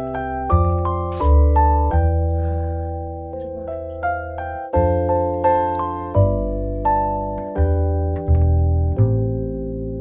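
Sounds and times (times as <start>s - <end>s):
soft piano melody: 0.0s - 10.0s.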